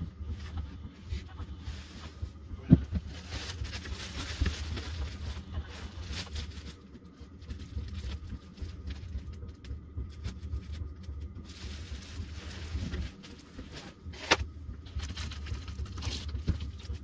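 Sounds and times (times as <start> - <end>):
steady low rumble: 0.0 - 17.0
plastic bag rustling: 1.2 - 9.2, 10.2 - 17.0.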